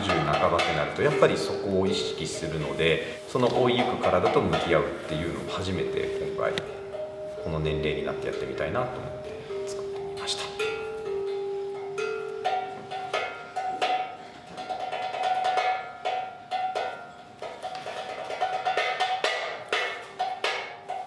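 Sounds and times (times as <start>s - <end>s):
clattering percussive strikes: 0.0s - 21.0s.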